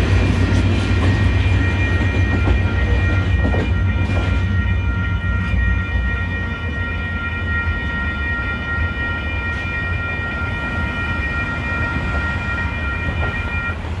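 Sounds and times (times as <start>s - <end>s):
crossing bell ringing: 0.0s - 14.0s
freight train rumbling: 0.0s - 14.0s.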